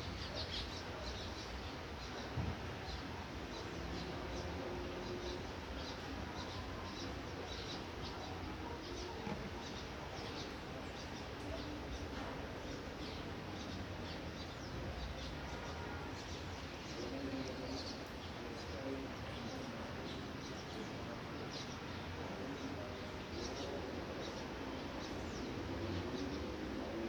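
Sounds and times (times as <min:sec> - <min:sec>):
light rain falling: 0:00.0 - 0:27.0
small birds chirping: 0:00.0 - 0:27.0.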